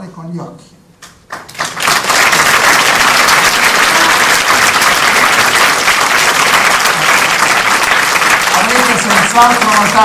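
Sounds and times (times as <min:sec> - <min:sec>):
many hands clapping: 0:01.0 - 0:10.0.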